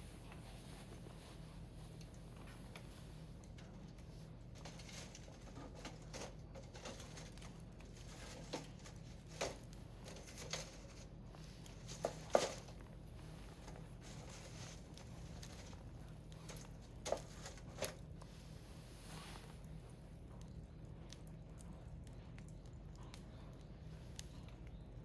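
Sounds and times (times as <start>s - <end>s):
firewood crackling: 0.0s - 25.0s.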